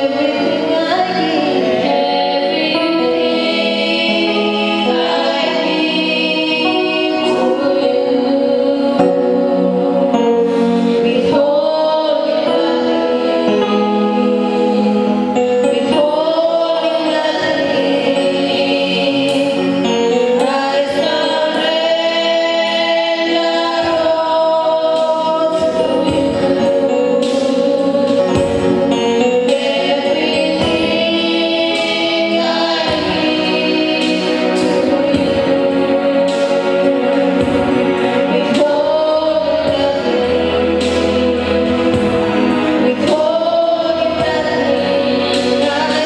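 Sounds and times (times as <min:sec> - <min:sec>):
choir singing gospel song: 0:00.0 - 0:46.0
musical backing: 0:00.0 - 0:46.0.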